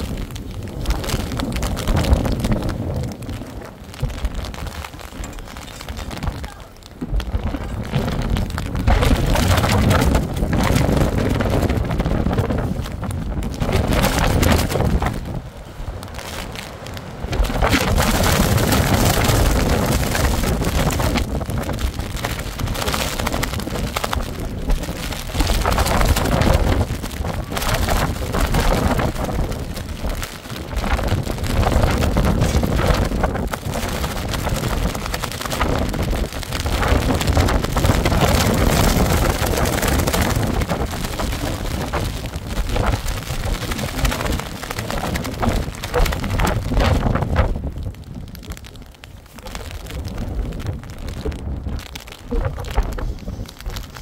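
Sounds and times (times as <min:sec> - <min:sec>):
rain falling: 0:00.0 - 0:54.0
strong wind gusting on microphone: 0:00.0 - 0:54.0.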